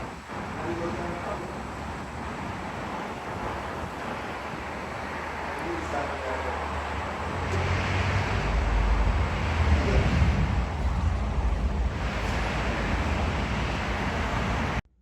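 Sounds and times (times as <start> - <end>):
car engine and exhaust drone: 0.0 - 15.0
road and wind noise: 0.0 - 15.0.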